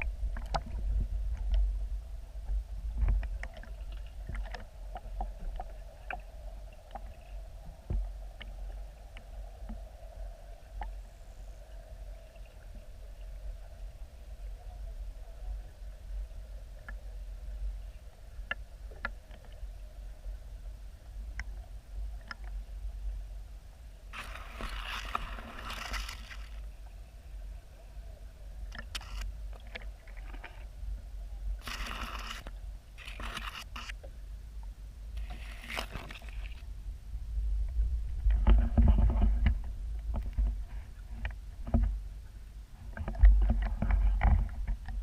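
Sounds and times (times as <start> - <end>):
low rumble: 0.0 - 19.0, 19.6 - 45.0
water sloshing against microphone: 0.0 - 45.0.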